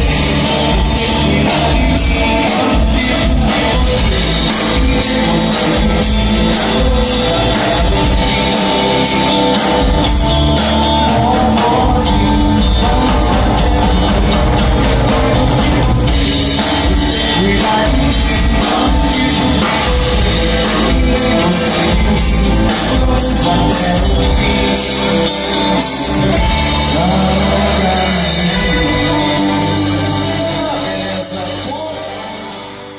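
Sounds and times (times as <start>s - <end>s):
band music: 0.0s - 32.9s
drums: 0.0s - 32.9s
guitar: 0.0s - 32.9s
person singing: 0.0s - 32.9s.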